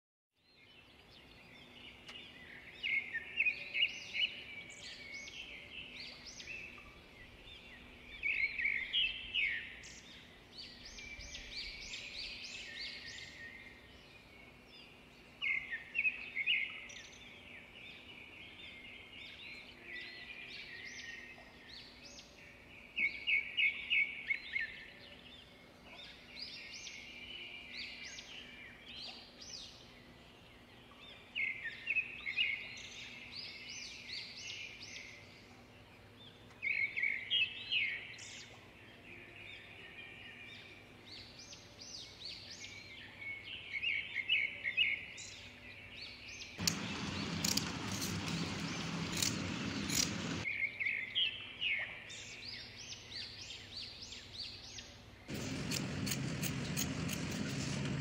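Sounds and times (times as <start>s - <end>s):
small birds chirping: 0.5s - 58.0s.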